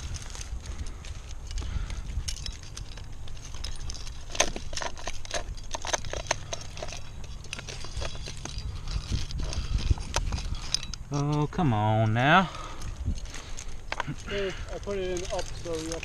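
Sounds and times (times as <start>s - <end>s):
climbing gear clinking: 0.0s - 16.0s
steady low rumble: 0.0s - 16.0s.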